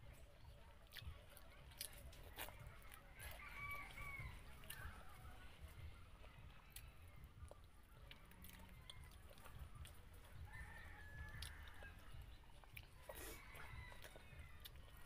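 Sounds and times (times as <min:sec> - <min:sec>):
chewing and mouth clicks: 0:00.0 - 0:15.0.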